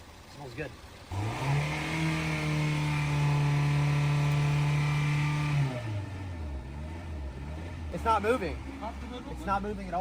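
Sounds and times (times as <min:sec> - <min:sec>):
car engine revving: 0:00.9 - 0:10.0.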